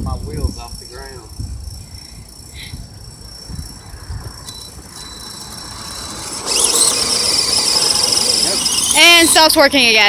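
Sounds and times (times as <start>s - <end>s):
electric toy truck whining: 1.8s - 10.0s.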